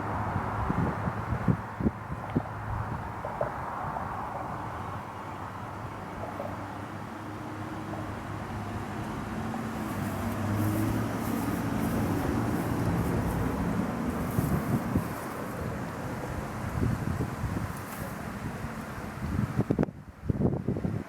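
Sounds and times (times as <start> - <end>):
wind buffeting microphone: 0.0 - 5.1, 8.1 - 21.0
vehicle engine hum passing: 0.0 - 19.7.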